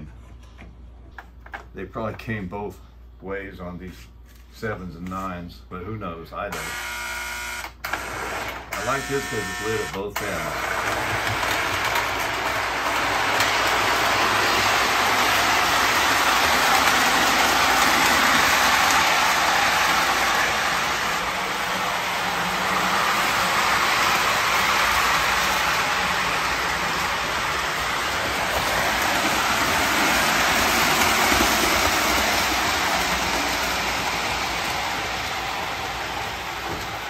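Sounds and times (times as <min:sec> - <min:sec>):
model train motor rumble and whir: 0:06.7 - 0:37.0.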